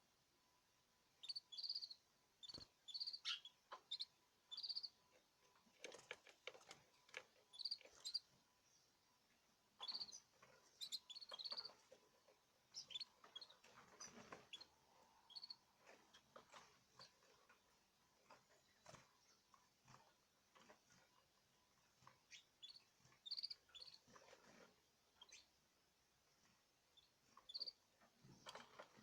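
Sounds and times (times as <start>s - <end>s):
caged birds chirping: 1.2s - 25.6s, 26.4s - 29.0s.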